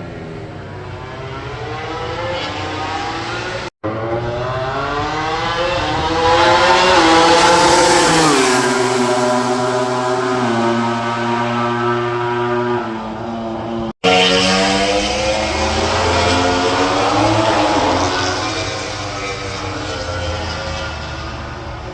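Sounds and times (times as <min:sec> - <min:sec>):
racing motorcycle engine high revs: 0:01.1 - 0:21.4.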